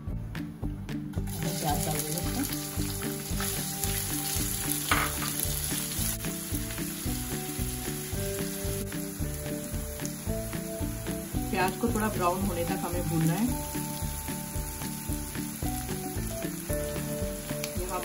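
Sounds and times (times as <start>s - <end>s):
onions sizzling in hot oil: 1.2s - 18.0s.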